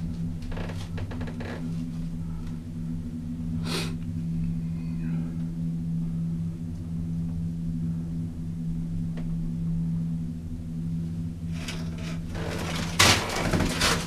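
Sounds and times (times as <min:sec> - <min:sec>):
gondola cabin humming: 0:00.0 - 0:14.0.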